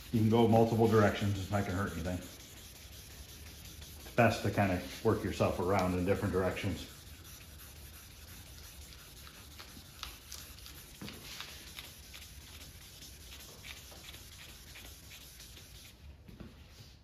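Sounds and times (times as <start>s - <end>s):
sanding block rubbing wet surface: 0.0s - 16.0s.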